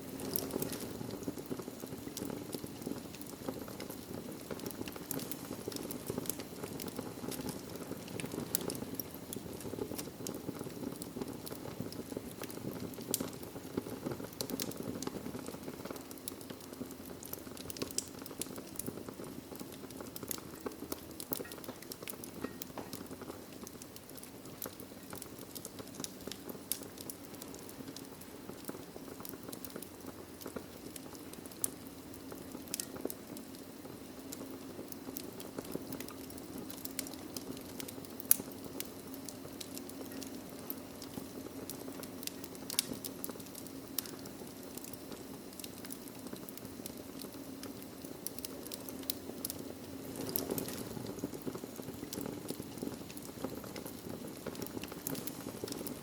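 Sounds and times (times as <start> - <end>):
fire pops and snaps: 0.0 - 56.0
flames rushing: 0.0 - 56.0.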